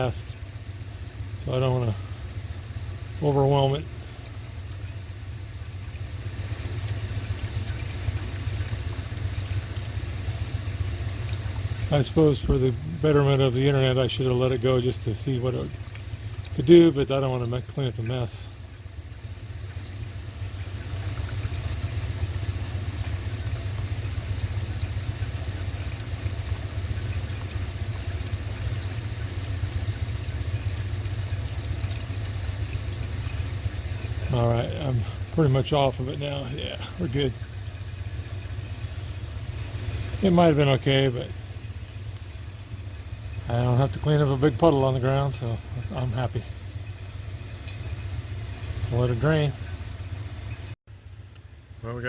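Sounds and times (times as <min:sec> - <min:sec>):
oil draining into container: 0:00.0 - 0:51.8
evaporative coolers roaring: 0:00.0 - 0:52.0.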